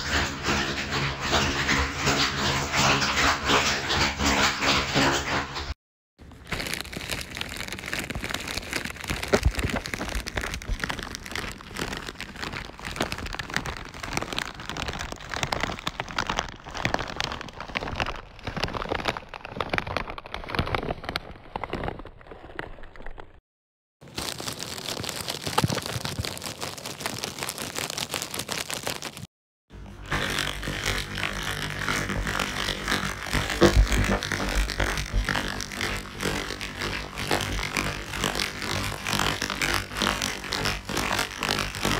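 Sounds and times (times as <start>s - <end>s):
plastic rattle shaken: 6.3s - 22.9s, 24.0s - 29.3s, 30.1s - 41.9s.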